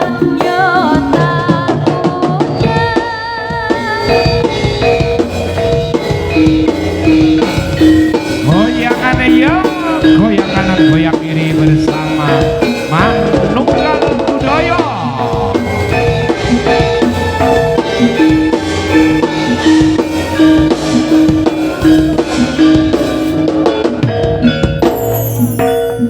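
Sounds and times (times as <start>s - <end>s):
drums: 0.0s - 26.0s
sliding melody line: 0.0s - 26.0s
tuned metal percussion: 2.6s - 26.0s.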